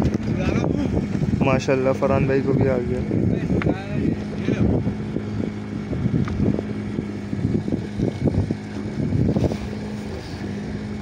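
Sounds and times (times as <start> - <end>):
boat engine humming: 0.0 - 11.0
wind buffeting microphone: 0.0 - 11.0.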